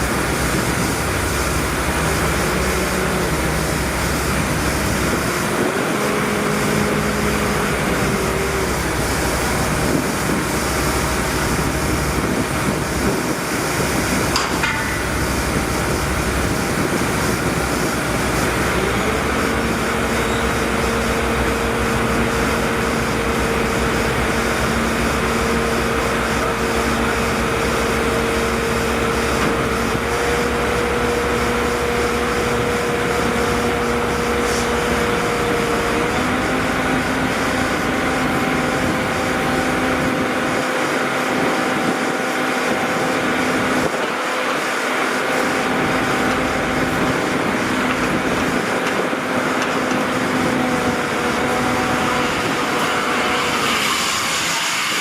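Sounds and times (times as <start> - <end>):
machinery engine running: 0.0 - 55.0.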